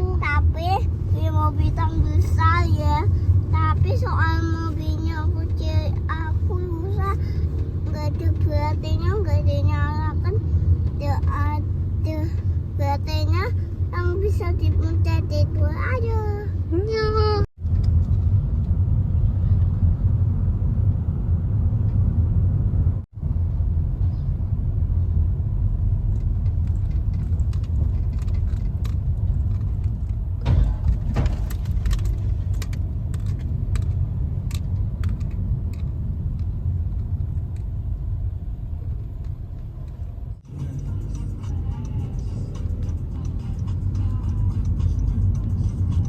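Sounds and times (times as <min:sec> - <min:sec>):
road rumble inside car: 0:00.0 - 0:46.0.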